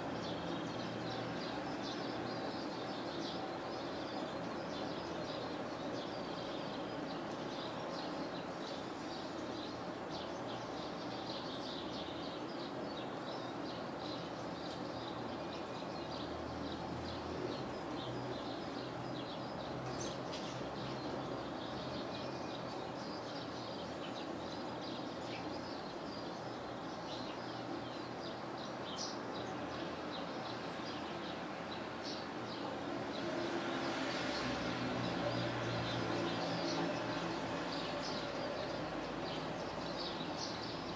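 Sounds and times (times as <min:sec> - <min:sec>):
low background noise: 0:00.0 - 0:40.9
songbirds chirping and twittering: 0:00.0 - 0:40.9.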